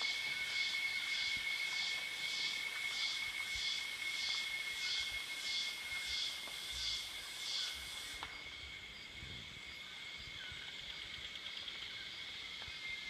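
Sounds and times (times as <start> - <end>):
jungle insects buzzing: 0.0 - 13.0.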